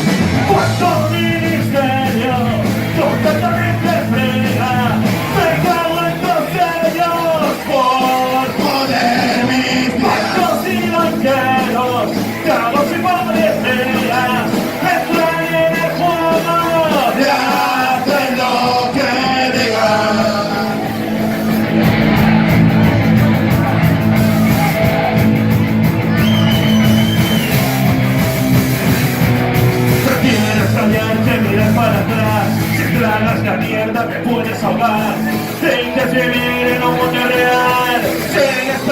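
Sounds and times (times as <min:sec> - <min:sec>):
rock band playing: 0:00.0 - 0:38.9
person singing: 0:00.3 - 0:23.7, 0:30.0 - 0:38.9.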